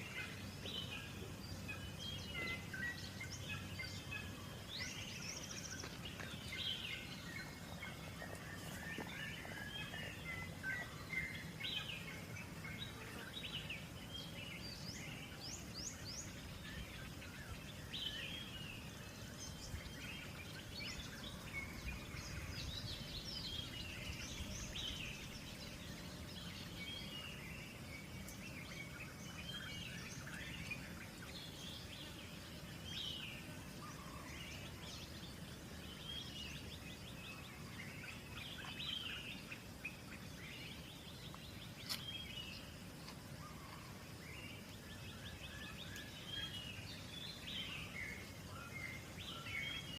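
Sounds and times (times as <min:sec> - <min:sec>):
forest birds chirping: 0:00.0 - 0:49.9
low background noise: 0:00.0 - 0:49.9.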